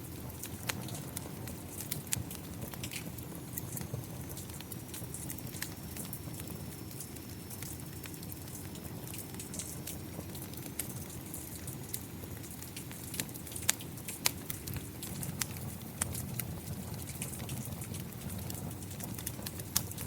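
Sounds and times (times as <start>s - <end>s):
steady rain: 0.0s - 20.0s
wood fire crackling: 0.0s - 20.0s.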